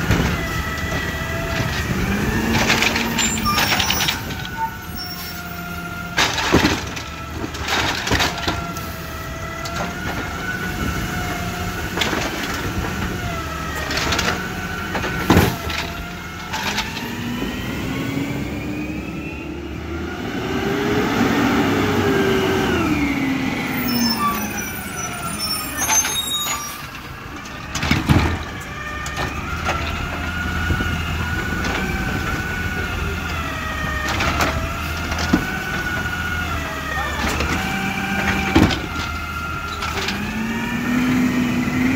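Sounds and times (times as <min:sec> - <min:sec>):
hydraulics whining: 0:00.0 - 0:41.9.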